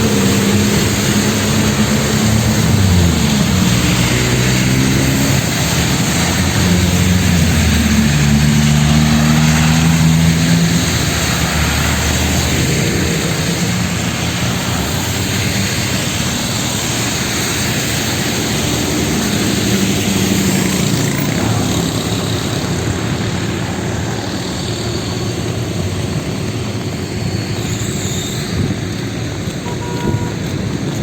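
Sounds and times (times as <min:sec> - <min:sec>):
rain hissing: 0:00.0 - 0:31.0
vehicles passing: 0:00.0 - 0:31.0
wet tyres on road: 0:00.0 - 0:31.0.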